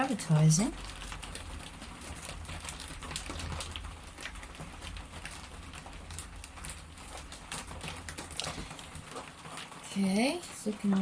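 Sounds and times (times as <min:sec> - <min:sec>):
potter's wheel humming: 0:00.0 - 0:11.0.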